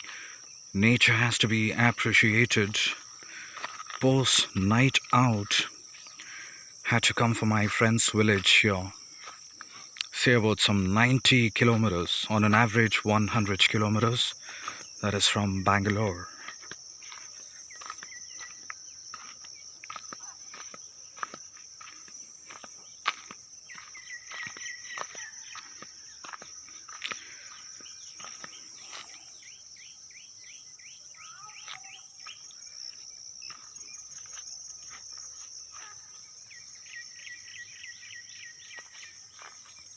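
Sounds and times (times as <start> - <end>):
birds chirping: 0.0 - 39.9
insects droning: 0.0 - 39.9.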